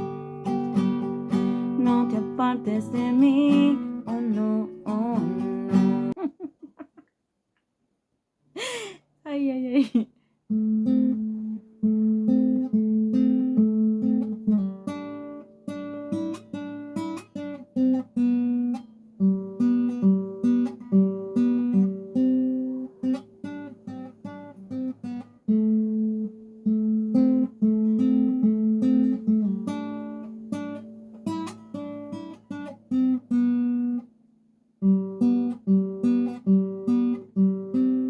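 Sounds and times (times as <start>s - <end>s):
acoustic guitar strummed and picked: 0.0s - 7.0s, 10.5s - 38.0s.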